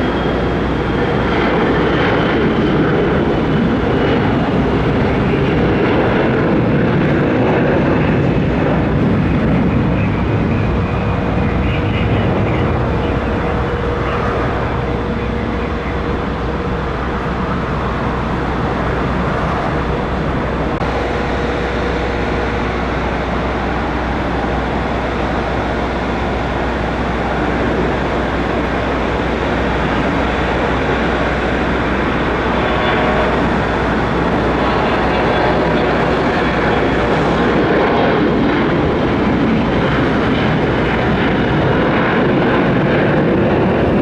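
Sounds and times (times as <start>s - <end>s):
jet engine noise: 0.0s - 44.0s.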